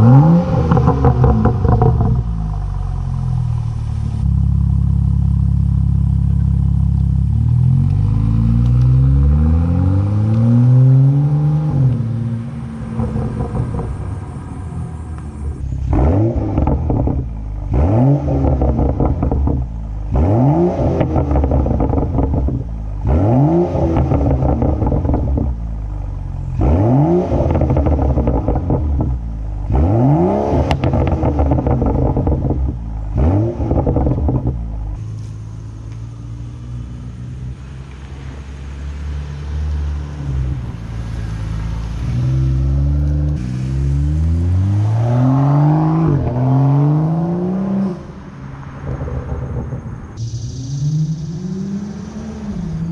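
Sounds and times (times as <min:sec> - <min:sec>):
car engine idling: 0:00.0 - 0:08.8, 0:11.9 - 0:26.7, 0:30.6 - 0:44.6, 0:46.0 - 0:52.9
car engine revving: 0:00.0 - 0:52.9.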